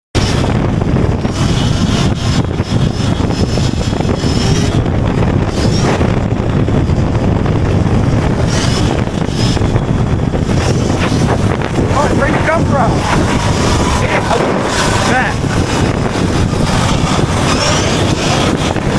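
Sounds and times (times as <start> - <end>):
wind buffeting microphone: 0.1 - 18.9.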